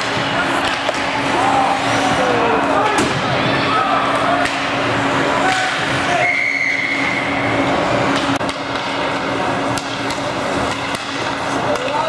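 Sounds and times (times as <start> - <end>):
hockey sticks and puck clacking: 0.0 - 3.2, 4.2 - 7.1, 8.0 - 12.0.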